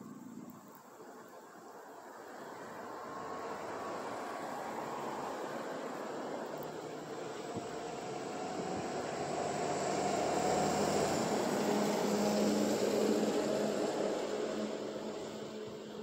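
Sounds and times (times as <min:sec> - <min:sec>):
vehicle passing: 0:02.8 - 0:15.9.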